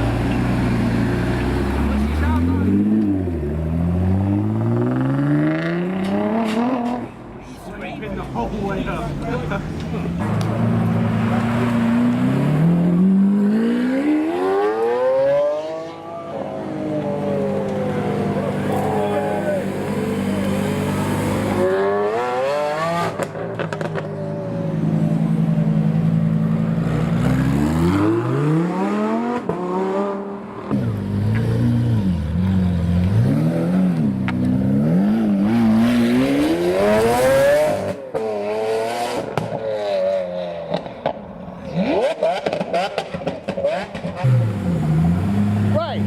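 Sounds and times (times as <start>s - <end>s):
car engine revving: 0.0s - 7.2s, 8.5s - 45.9s.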